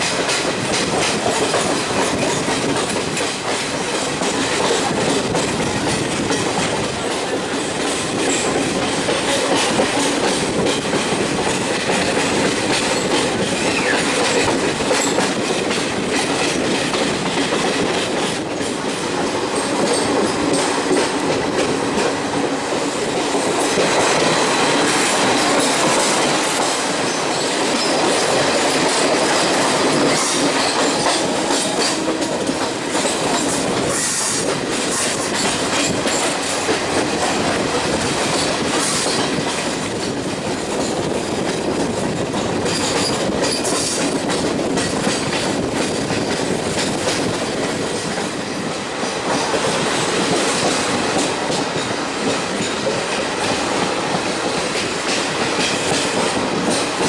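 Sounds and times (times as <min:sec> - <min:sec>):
train rumble: 0:00.0 - 0:57.0
train wheels clattering on rails: 0:00.0 - 0:57.0.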